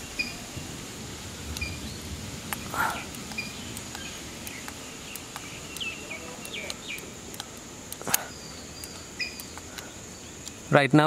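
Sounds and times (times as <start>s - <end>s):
birds chirping: 0.0s - 11.0s
high insect drone: 0.0s - 11.0s.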